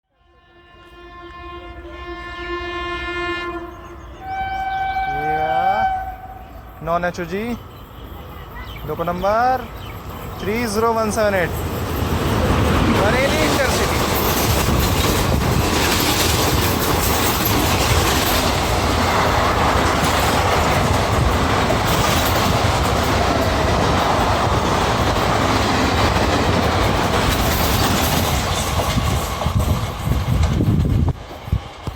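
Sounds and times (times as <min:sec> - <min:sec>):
train coaches rattling: 0:03.7 - 0:31.9
wheels rumbling on track: 0:03.7 - 0:31.9.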